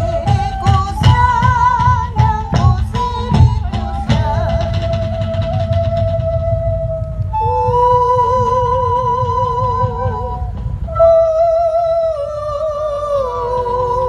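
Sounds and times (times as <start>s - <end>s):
high wavering melody: 0.0s - 14.0s
low steady rumble: 0.0s - 14.0s.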